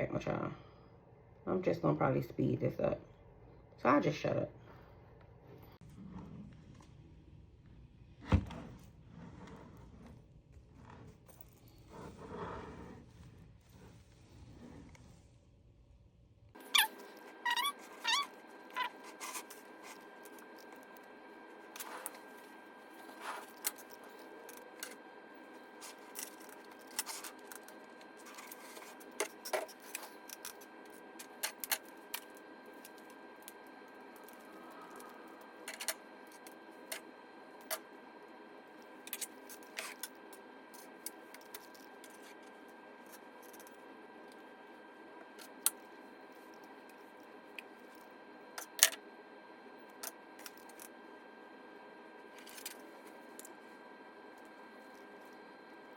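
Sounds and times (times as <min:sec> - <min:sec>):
faint hum: 0:00.0 - 0:55.9.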